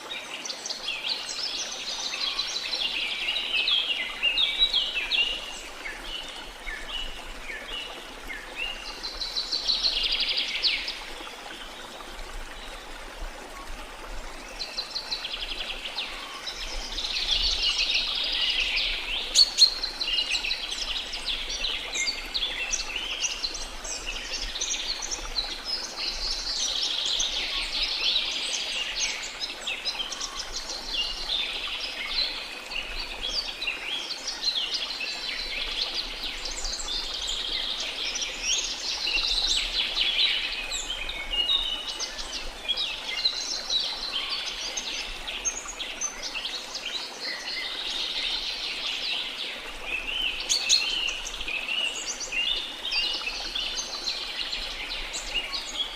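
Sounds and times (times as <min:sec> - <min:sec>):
flowing river water: 0:00.0 - 0:55.9.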